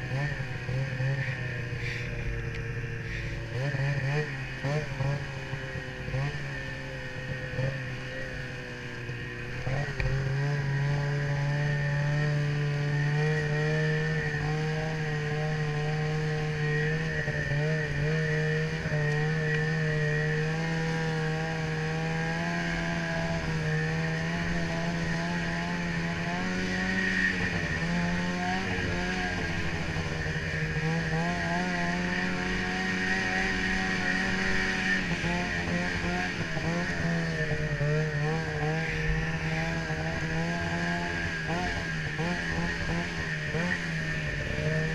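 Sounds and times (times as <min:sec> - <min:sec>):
snowmobile engine running: 0:00.0 - 0:44.9.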